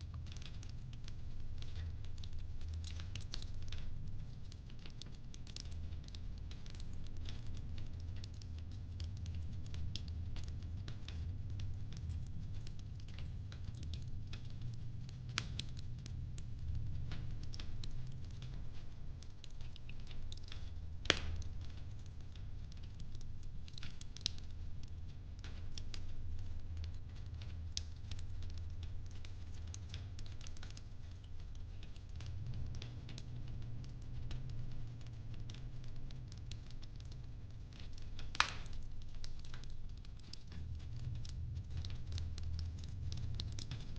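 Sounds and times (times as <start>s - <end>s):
fireplace flames rumbling: 0.0s - 43.9s
fire popping: 0.2s - 43.9s.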